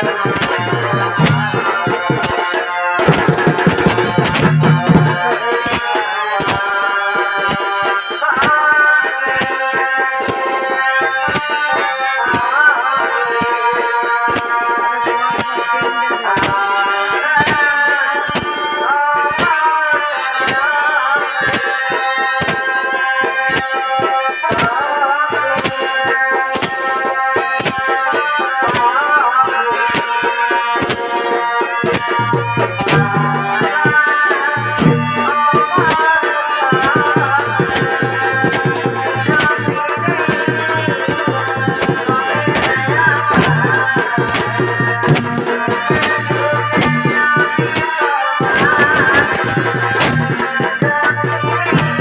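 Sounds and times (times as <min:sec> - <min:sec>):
steady drum beats: 0:00.0 - 0:52.0.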